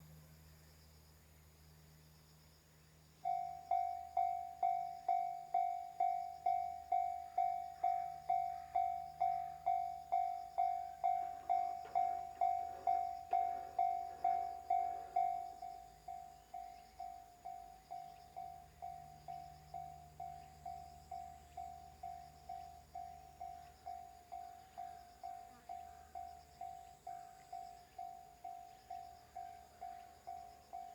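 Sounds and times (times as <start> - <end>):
level crossing warning bell: 3.2 - 30.9.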